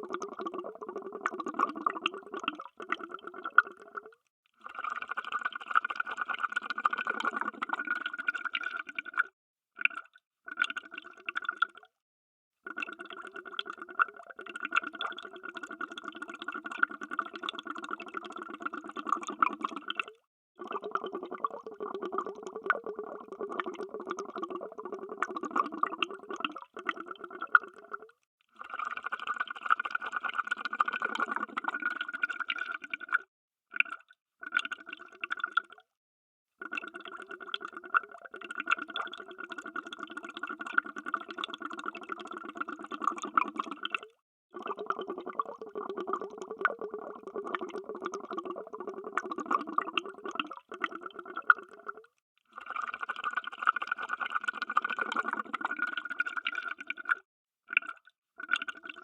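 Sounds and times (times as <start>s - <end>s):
underwater bubbles gurgling: 0.0s - 4.2s, 4.9s - 11.8s, 12.7s - 33.2s, 36.7s - 59.0s.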